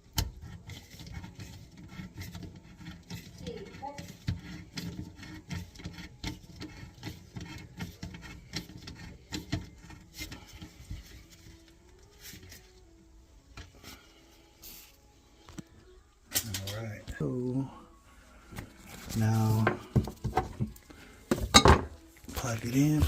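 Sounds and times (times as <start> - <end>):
rubbing and rustling: 0.1 - 17.1, 18.1 - 21.2, 21.8 - 23.0.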